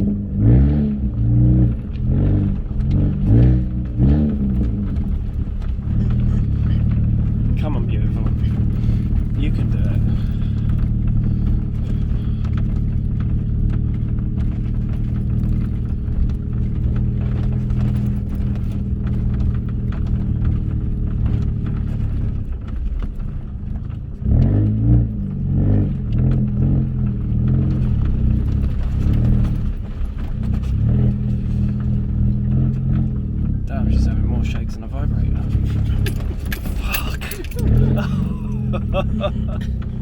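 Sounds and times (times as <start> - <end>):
car engine running and revving: 0.0 - 40.0
car knocking and clattering: 0.0 - 40.0.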